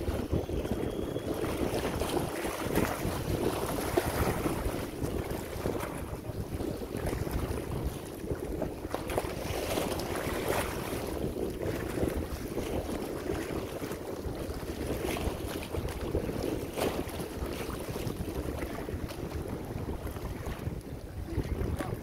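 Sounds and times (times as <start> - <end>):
waves splashing against rocks: 0.0 - 22.0
wind rumbling on microphone: 0.0 - 22.0.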